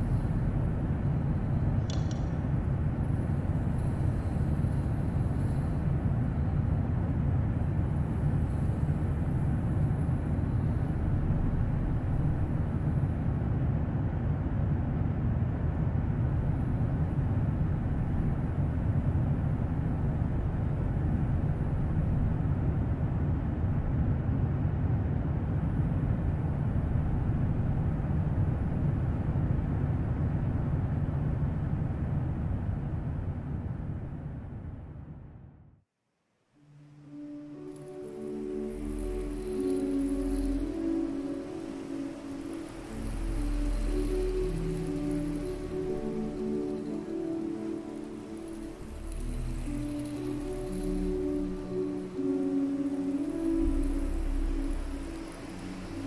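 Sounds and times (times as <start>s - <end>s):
low rumbling drone: 0.0s - 35.7s, 36.7s - 56.0s.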